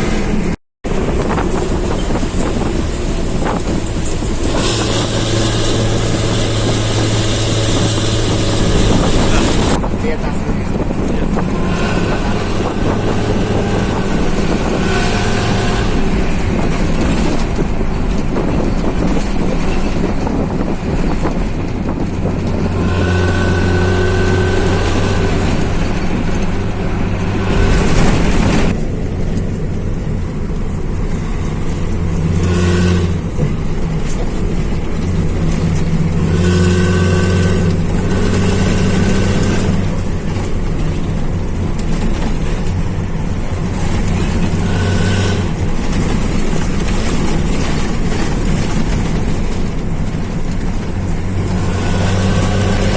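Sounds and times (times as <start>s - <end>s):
bus diesel engine droning: 0.0s - 52.9s.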